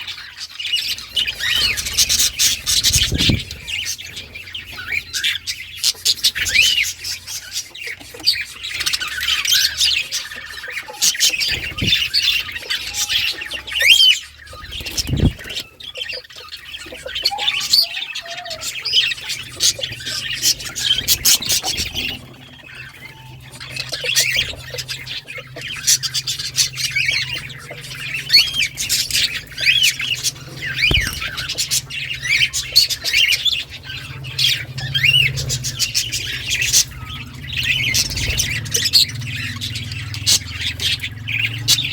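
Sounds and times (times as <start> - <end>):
budgerigars chattering and warbling: 0.0 - 41.9.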